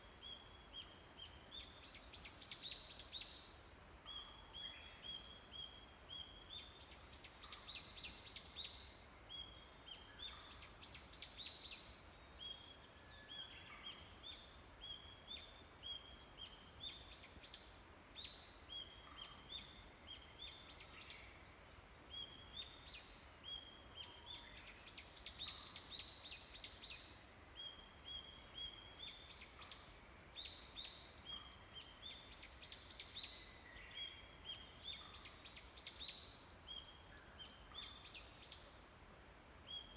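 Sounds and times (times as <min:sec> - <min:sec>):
songbirds singing: 0:00.1 - 0:39.9.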